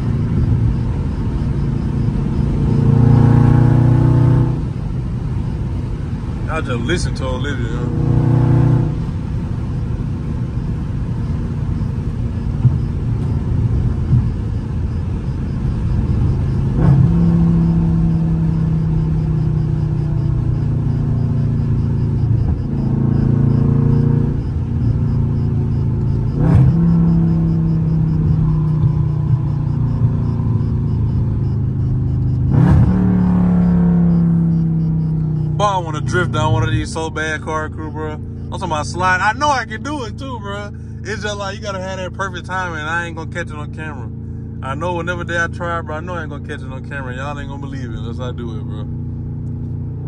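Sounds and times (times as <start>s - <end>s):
car engine at highway speed: 0.0s - 50.0s
road rumble: 0.0s - 50.0s.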